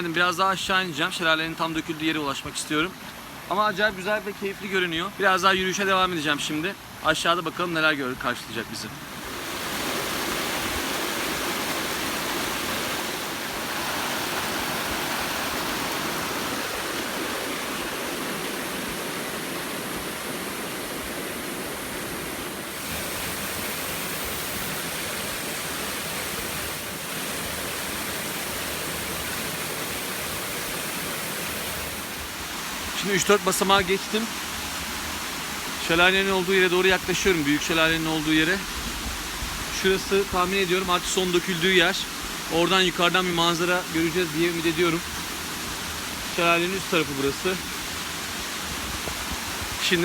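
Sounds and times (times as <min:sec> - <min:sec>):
mountain stream rushing over cascades: 0:00.0 - 0:50.0.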